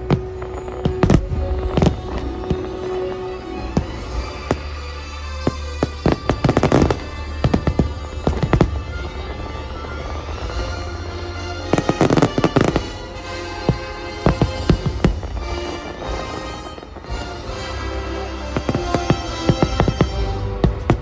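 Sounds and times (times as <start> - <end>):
fireworks bursting: 0.0 - 21.0
music soundtrack: 0.0 - 21.0.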